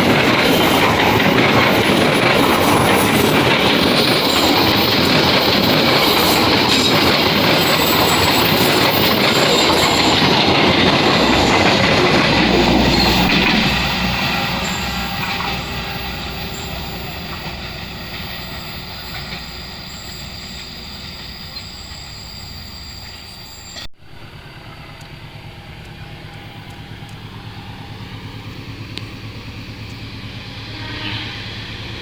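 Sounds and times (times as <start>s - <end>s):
passenger train running on rails: 0.0s - 32.0s.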